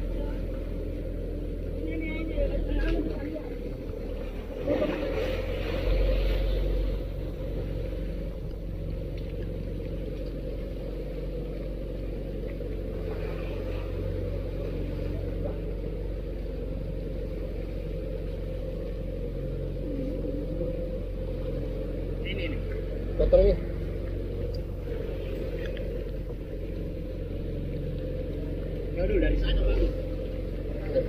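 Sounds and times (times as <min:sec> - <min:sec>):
boat engine rumbling: 0:00.0 - 0:31.0.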